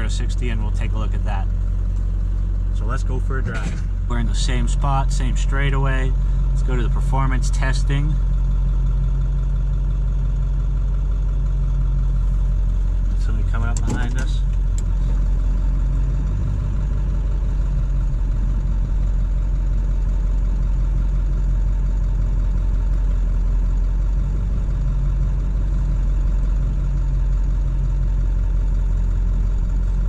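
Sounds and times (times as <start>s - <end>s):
diesel truck engine droning: 0.0s - 30.0s
road noise: 0.0s - 30.0s.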